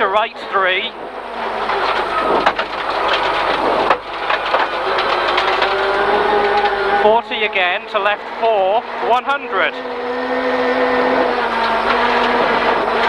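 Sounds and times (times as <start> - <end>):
gravel clattering against car: 0.0 - 10.1, 10.7 - 13.0
rally car engine under load: 0.0 - 13.0.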